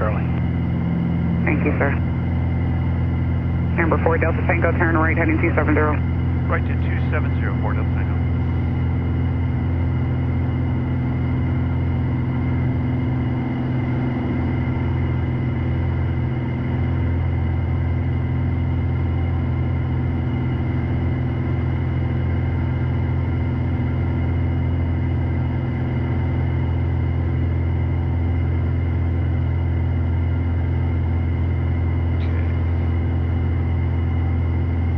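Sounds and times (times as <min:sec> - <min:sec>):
aircraft engine and propeller drone: 0:00.0 - 0:34.9.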